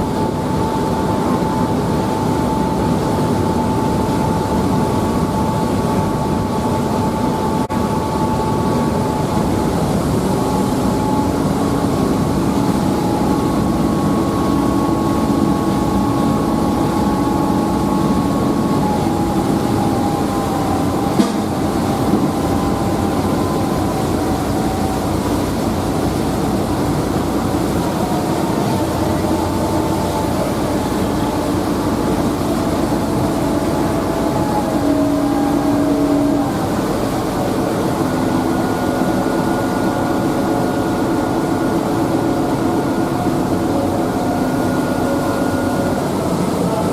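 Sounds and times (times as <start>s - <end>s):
faint whining tones: 0.0s - 46.9s
ferry engines droning: 0.0s - 46.9s.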